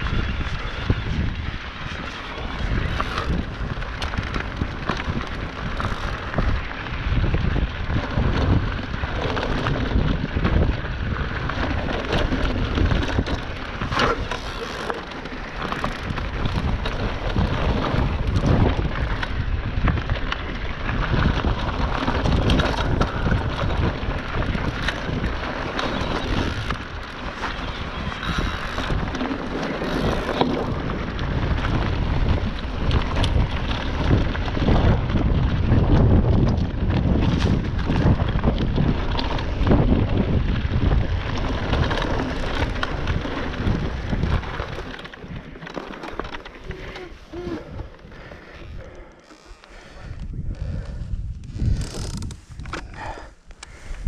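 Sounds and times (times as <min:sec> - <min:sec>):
bike rattling over bumps: 0:00.0 - 0:54.0
tyres crackling over gravel: 0:00.0 - 0:54.0
wind buffeting microphone: 0:00.0 - 0:54.0.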